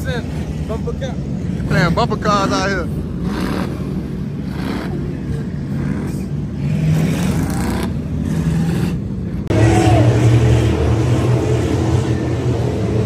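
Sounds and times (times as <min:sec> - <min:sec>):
car engines revving: 0:00.0 - 0:13.0
steady engine drone: 0:00.0 - 0:13.0.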